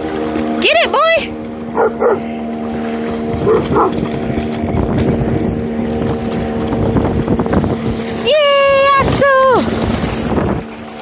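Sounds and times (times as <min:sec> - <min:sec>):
dog splashing in river: 0:00.0 - 0:11.0
steady droning hum: 0:00.0 - 0:11.0.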